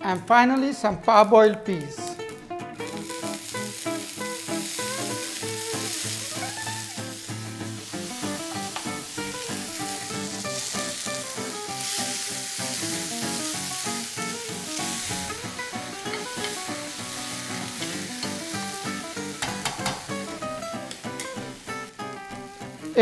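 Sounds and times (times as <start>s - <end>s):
background music: 0.0s - 23.0s
peas sizzling in hot oil: 2.2s - 23.0s.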